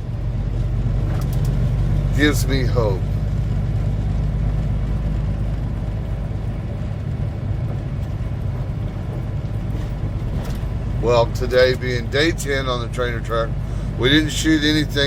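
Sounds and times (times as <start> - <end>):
road noise: 0.0 - 15.0
truck diesel engine droning: 0.0 - 15.0.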